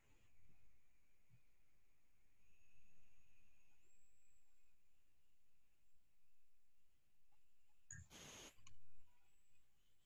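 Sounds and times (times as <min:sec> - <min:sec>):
faint high-pitched whine: 0:00.0 - 0:10.0.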